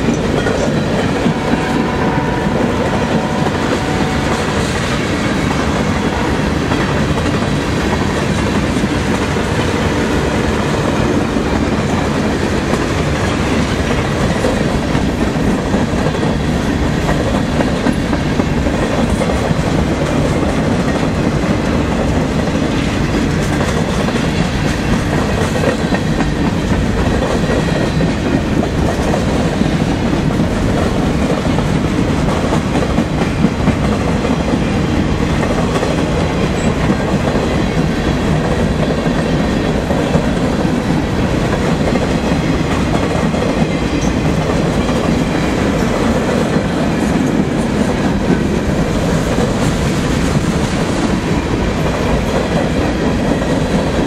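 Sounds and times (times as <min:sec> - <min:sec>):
steel wheels running on rails: 0:00.0 - 0:54.0.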